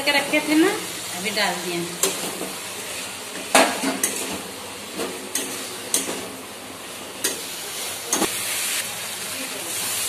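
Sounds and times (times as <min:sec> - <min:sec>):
low sizzle: 0:00.0 - 0:10.0.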